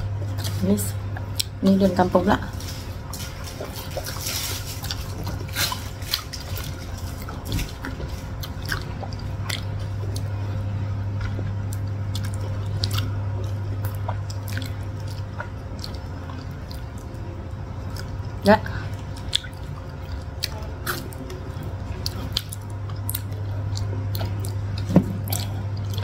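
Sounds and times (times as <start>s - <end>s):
steady low hum: 0.0s - 26.0s
people chewing and lip smacking: 0.1s - 26.0s.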